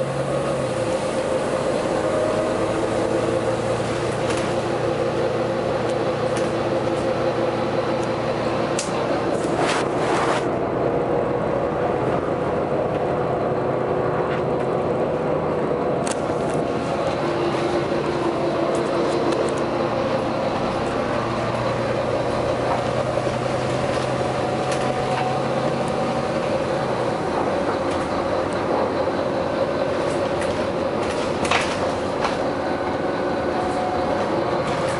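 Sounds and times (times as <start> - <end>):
vehicle running hum: 0.0 - 34.9.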